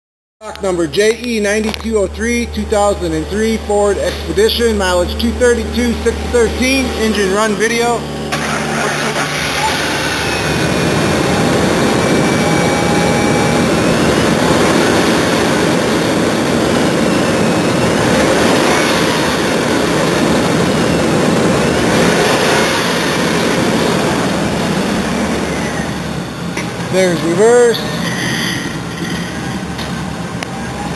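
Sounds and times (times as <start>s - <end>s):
car engine running: 0.4s - 28.0s
faint engine whine: 0.4s - 30.9s.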